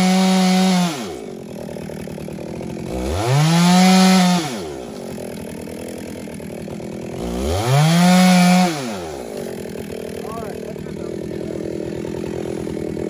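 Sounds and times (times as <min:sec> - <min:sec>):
chainsaw engine idling and revving: 0:00.0 - 0:13.0.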